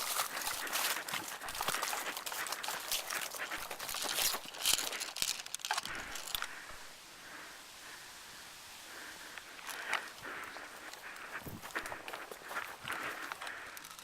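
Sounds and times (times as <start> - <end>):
footsteps crunching dry leaves: 0.0 - 6.9, 9.6 - 14.0.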